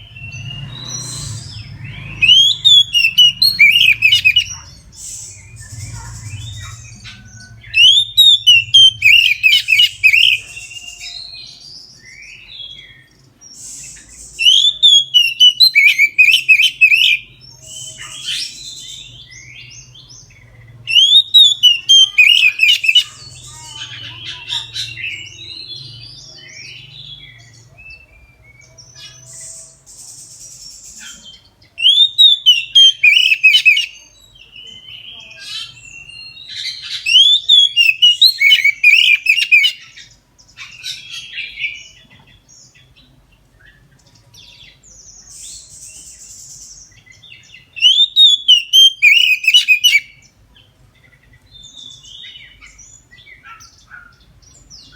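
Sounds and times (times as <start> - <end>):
bird whistling song: 0.0 - 50.4
bird chattering and buzzy calls: 0.0 - 54.9.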